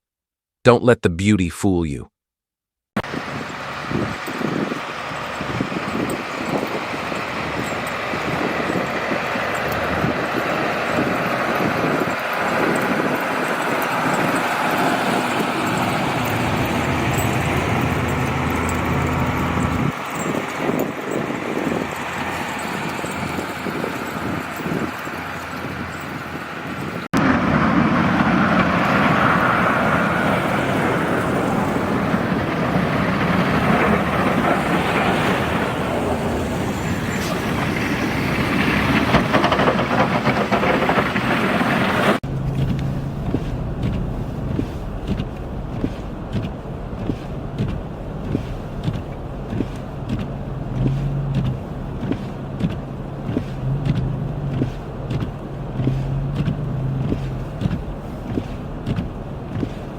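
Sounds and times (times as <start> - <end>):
even rushing road noise: 3.0 - 59.9
low engine hum: 3.0 - 59.9.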